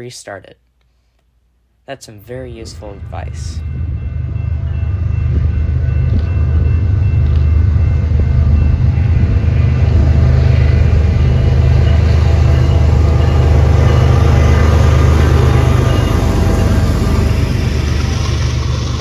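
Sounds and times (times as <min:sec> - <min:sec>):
diesel locomotive rumble: 0:02.3 - 0:19.0.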